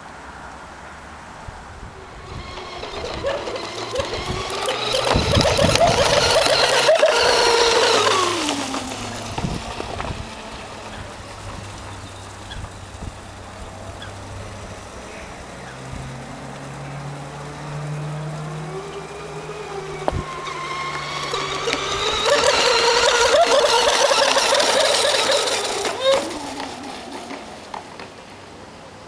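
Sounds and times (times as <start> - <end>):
rc boat motor whine: 1.8 - 29.0.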